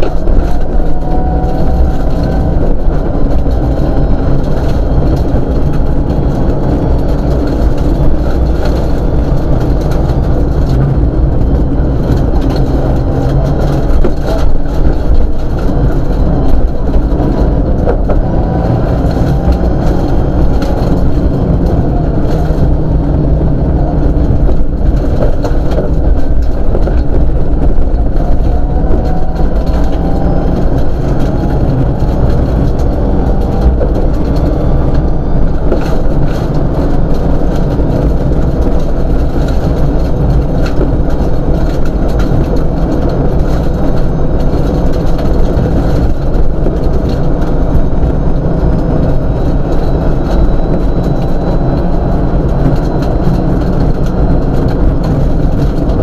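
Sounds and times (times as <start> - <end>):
rally car engine: 0.0 - 56.0
road noise rumble: 0.0 - 56.0.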